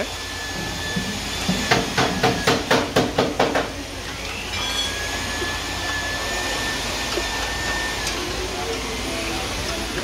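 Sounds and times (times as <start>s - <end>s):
vacuum cleaner whine: 0.0s - 10.0s.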